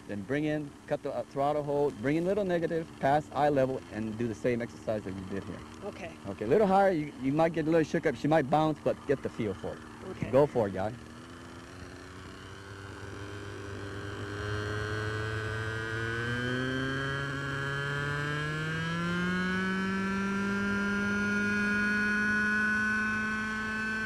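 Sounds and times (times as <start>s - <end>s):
model helicopter engine and rotor: 0.0s - 24.0s.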